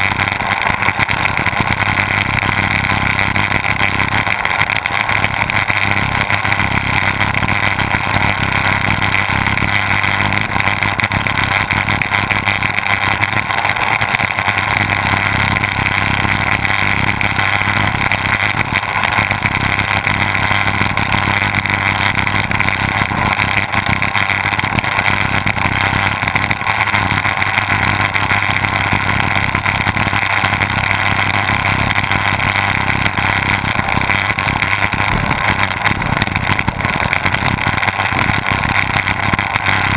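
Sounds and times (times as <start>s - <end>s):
outboard engines running: 0.0s - 39.9s.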